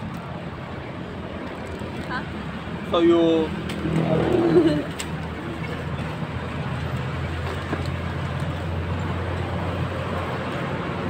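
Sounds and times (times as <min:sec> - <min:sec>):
road traffic engine drone: 0:00.0 - 0:11.0.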